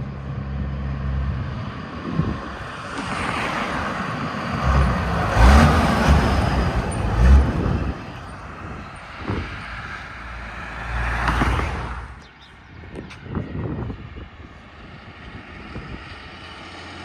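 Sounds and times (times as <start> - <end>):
vehicle passing: 0.0 - 14.1
heavy engine rumbling: 0.0 - 17.0.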